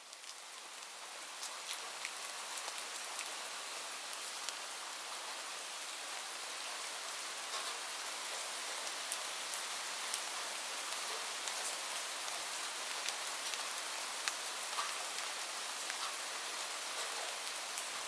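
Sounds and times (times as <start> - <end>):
raindrops pattering: 0.0 - 6.4, 7.4 - 18.0
steady rain hiss: 0.0 - 18.0.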